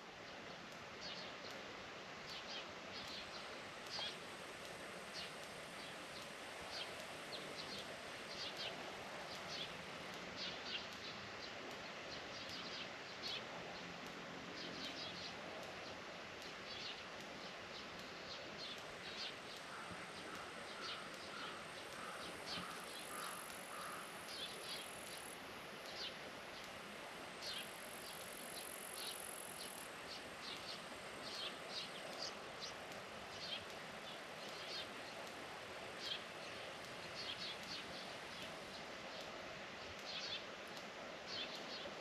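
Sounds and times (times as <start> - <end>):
outdoor hiss: 0.0 - 42.0
small birds chirping: 0.3 - 42.0.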